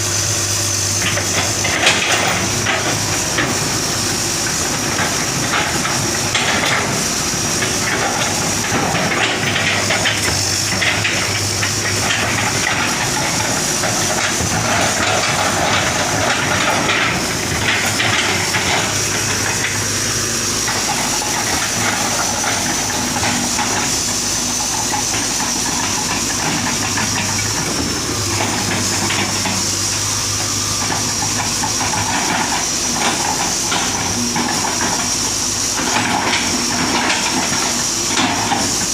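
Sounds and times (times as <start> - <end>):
excavator engine hum: 0.0 - 38.9.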